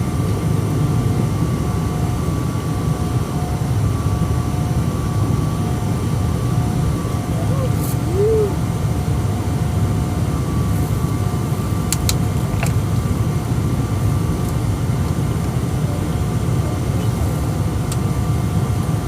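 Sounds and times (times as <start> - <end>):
faint steady whine: 0.0 - 19.0
low cabin rumble: 2.9 - 19.0.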